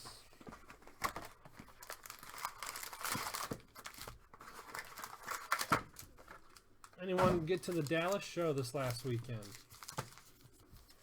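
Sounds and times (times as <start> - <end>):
card packaging crinkling and tearing: 0.4 - 11.0.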